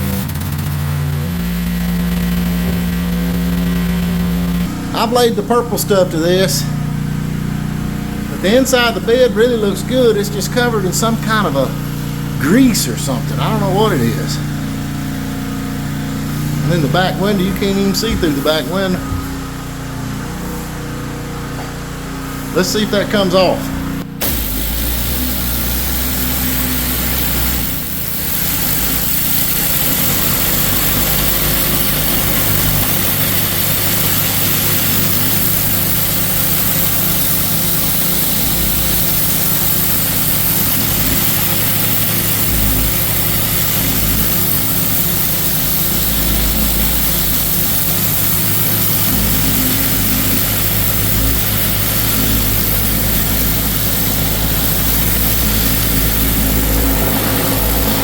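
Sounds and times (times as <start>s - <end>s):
high-pressure water jet hissing: 0.0s - 19.7s, 22.4s - 58.0s
pressure washer engine drone: 0.0s - 58.0s.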